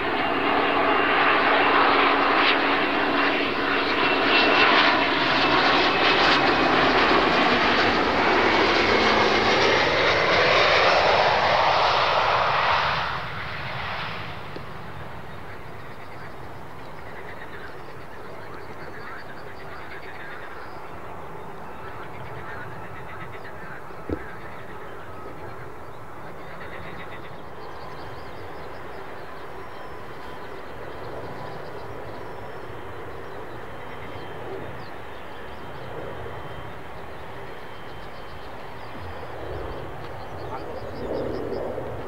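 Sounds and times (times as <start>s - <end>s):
distant jet aircraft rumble: 0.0s - 42.0s.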